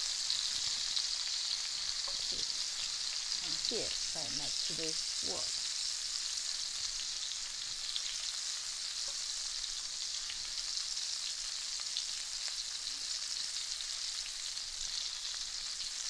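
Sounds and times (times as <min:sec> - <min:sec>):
prawns frying in hot oil: 0:00.0 - 0:16.0.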